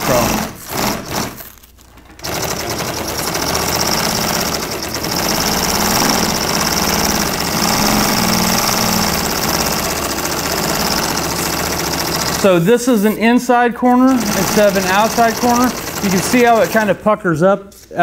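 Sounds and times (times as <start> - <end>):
industrial sewing machine stitching: 0.0 - 17.1.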